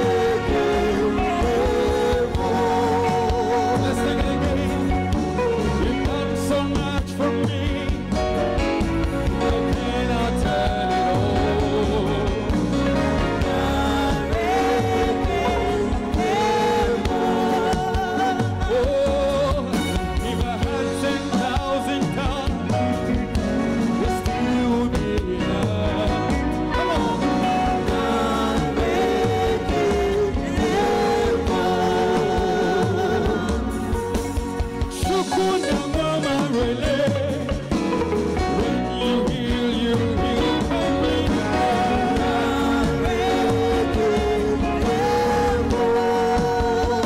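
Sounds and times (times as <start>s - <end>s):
gospel band playing: 0.0s - 47.0s
person singing: 0.0s - 47.0s
steady drum beat: 0.0s - 47.0s.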